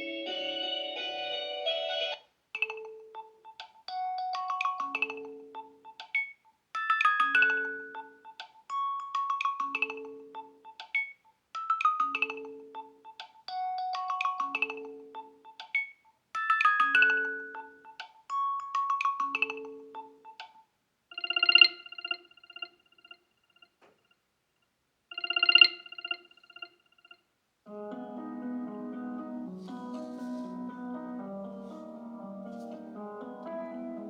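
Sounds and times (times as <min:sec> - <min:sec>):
phone ringtone melody: 0:00.0 - 0:23.7, 0:25.1 - 0:34.0.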